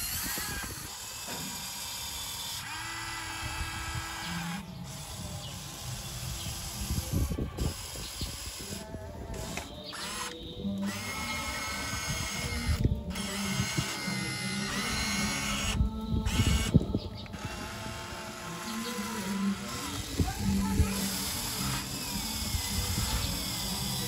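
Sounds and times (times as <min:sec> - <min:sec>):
electric motors whirring: 0:00.0 - 0:24.0.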